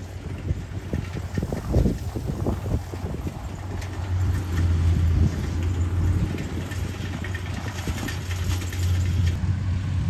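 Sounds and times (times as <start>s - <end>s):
ticking and clatter: 0.0s - 9.5s
combine harvester engine hum: 0.0s - 10.0s.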